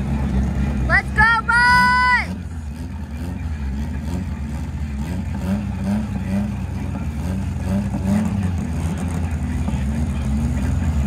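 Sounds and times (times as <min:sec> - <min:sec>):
race car engine rumbling: 0:00.0 - 0:11.0.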